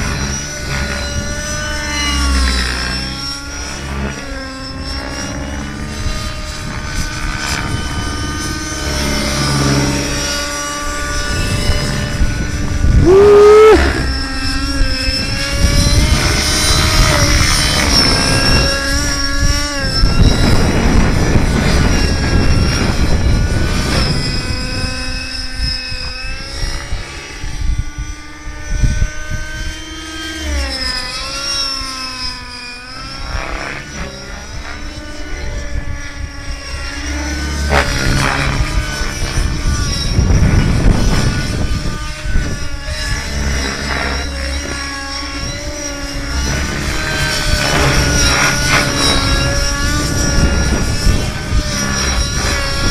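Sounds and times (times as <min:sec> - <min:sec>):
model aircraft engine: 0:00.0 - 0:52.9.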